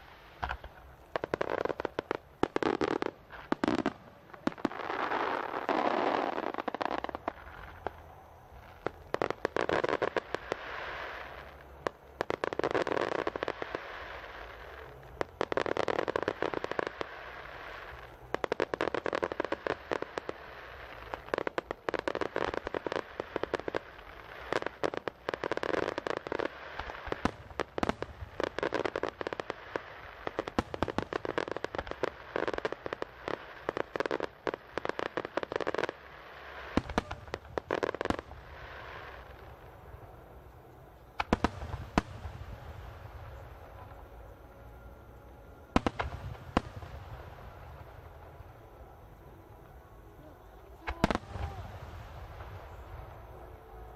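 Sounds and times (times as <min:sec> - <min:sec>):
fireworks bangs: 0:00.0 - 0:44.9, 0:45.6 - 0:53.9
fireworks crackling: 0:00.0 - 0:53.9.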